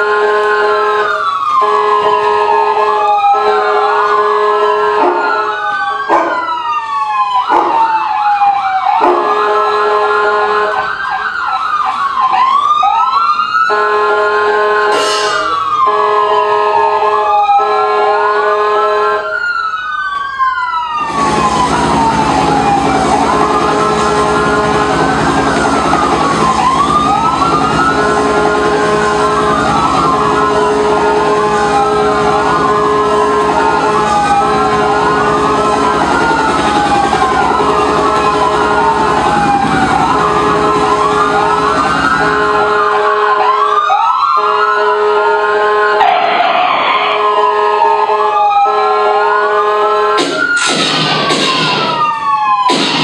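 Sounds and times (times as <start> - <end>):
sirens wailing: 0.0 - 53.0.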